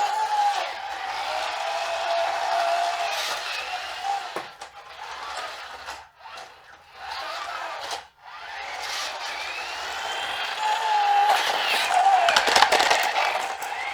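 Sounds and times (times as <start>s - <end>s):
toy motor and gears whirring: 0.0s - 13.9s.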